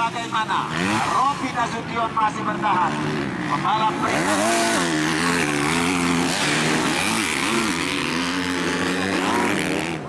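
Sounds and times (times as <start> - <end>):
racing motorcycle engines: 0.0 - 10.0.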